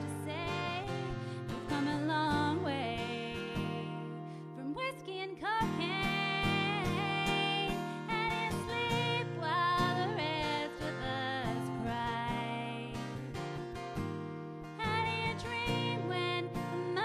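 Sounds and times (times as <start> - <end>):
woman singing: 0.0 - 13.3, 14.8 - 17.0
strummed acoustic guitar: 0.0 - 17.0.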